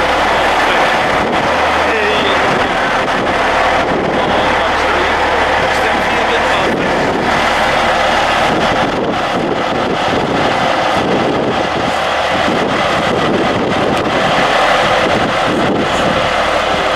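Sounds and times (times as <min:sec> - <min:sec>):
heavy vehicle engines rumbling: 0:00.0 - 0:16.9
wind on microphone: 0:00.0 - 0:16.9.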